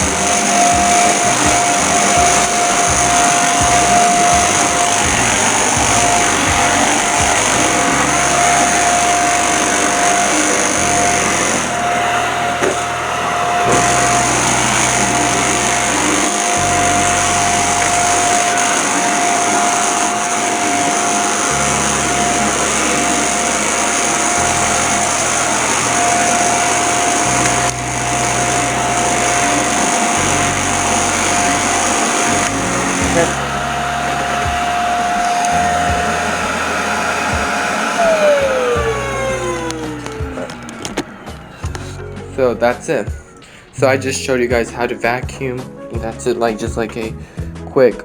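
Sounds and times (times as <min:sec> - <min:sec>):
vacuum cleaner running on carpet: 0:00.0 - 0:43.4.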